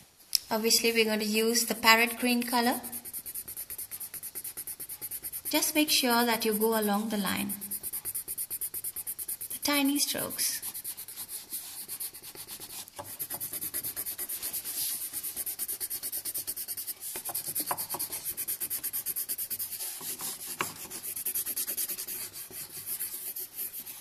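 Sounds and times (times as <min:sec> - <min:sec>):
pencil scratching on paper: 0:01.7 - 0:24.0.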